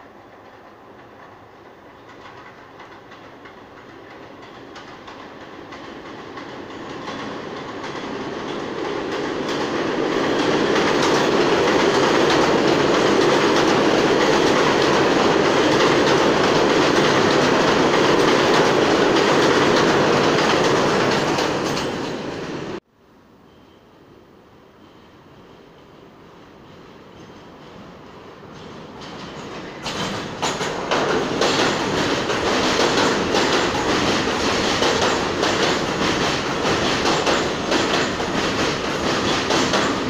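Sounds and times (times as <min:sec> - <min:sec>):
subway train rumbling past: 0:00.0 - 0:40.0.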